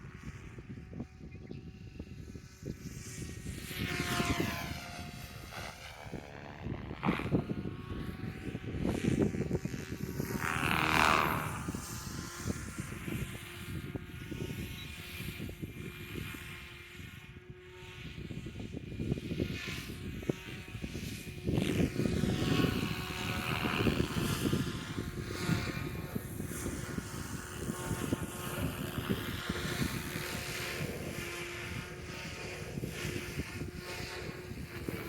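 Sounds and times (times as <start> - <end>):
helicopter flying: 0.0 - 35.0
wind buffeting microphone: 0.0 - 35.0.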